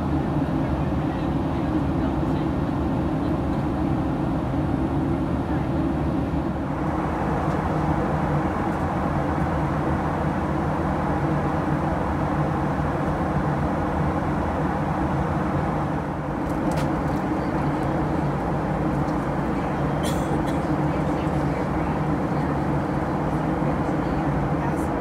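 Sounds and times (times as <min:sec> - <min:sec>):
airplane cabin engine drone: 0:00.0 - 0:25.0.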